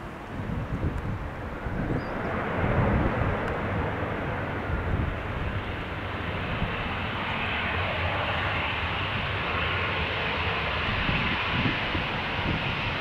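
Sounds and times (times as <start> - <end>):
jet engine hiss: 0.0 - 13.0
jet engines rumbling: 0.0 - 13.0.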